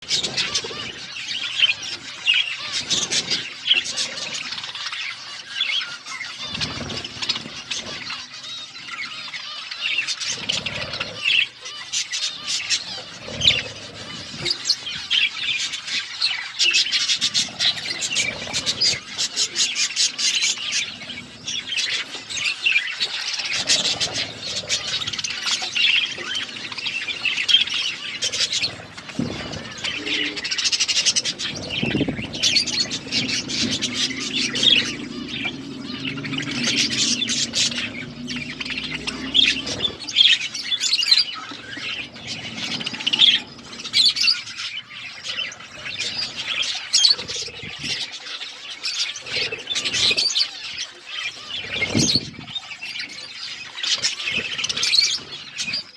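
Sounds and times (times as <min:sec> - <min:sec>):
budgerigars chirping and chattering: 0:00.0 - 0:55.9.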